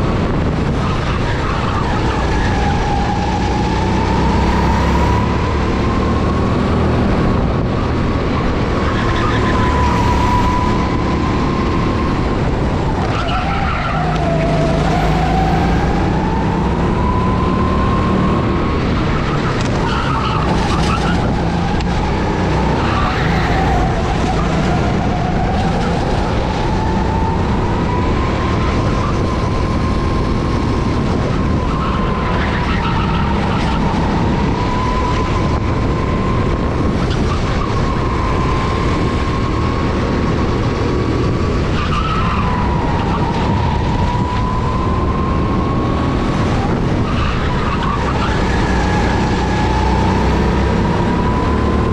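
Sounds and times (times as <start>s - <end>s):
go-kart engine revving: 0.0s - 51.9s.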